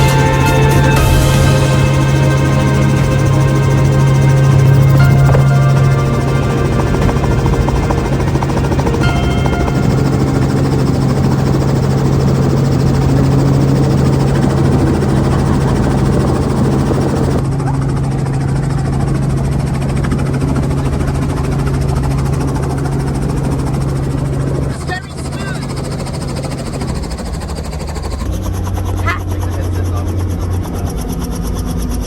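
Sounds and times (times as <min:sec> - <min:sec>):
helicopter engine and rotor drone: 0:00.0 - 0:32.0.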